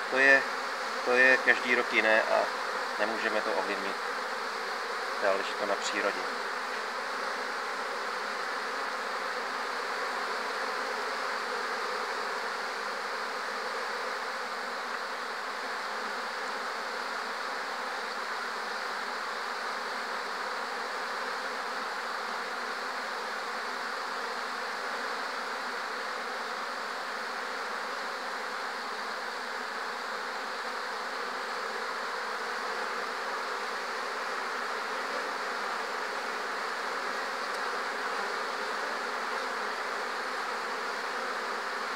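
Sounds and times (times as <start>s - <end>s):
honey bees humming: 0.0s - 41.9s.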